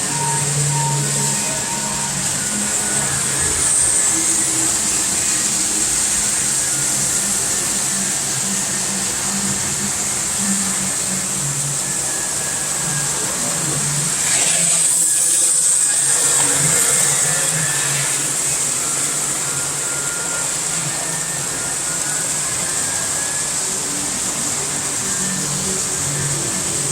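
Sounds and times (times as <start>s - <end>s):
hissing track noise: 0.0s - 26.9s
model train motor hum: 0.0s - 26.9s.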